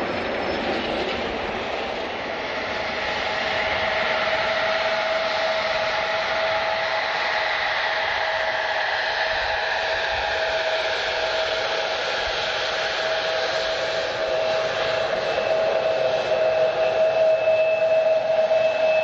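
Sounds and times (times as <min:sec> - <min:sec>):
jet engine whine: 0:00.0 - 0:19.0
jet engines rushing: 0:00.0 - 0:19.0.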